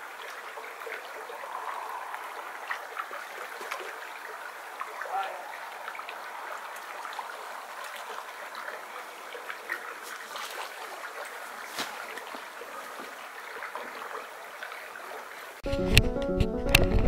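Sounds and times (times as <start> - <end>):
shallow river babbling: 0.0 - 15.6
small clicks and splashes: 0.0 - 15.6.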